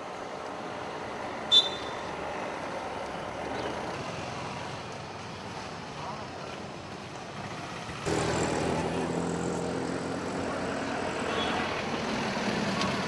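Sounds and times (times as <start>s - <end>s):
passing vehicles humming: 0.0s - 13.0s.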